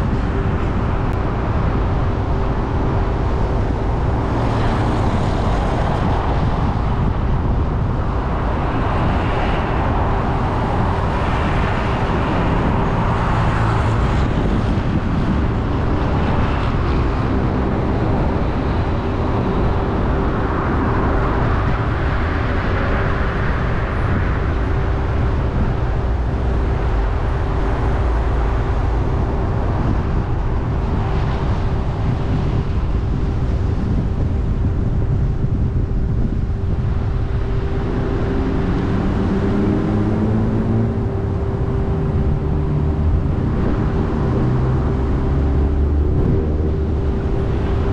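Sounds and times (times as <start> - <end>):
car engine and tyre rumble: 0.0 - 47.9
constant thin hum: 0.0 - 47.9.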